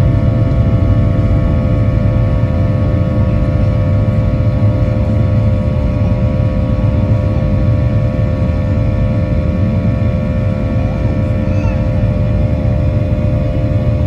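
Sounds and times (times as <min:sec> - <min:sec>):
jet engine rumble: 0:00.0 - 0:14.0
jet engine whine: 0:00.0 - 0:14.0.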